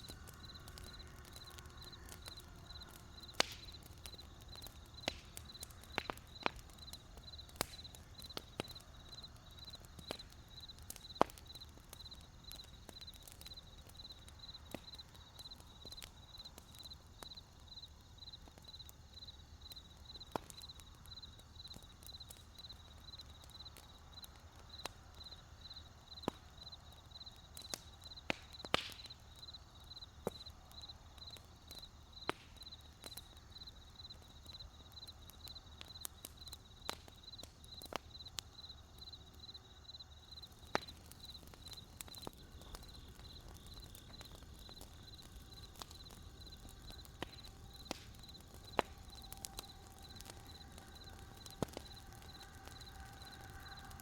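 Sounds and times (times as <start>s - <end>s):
crickets chirping: 0.0s - 54.0s
wood fire crackling: 0.0s - 54.0s.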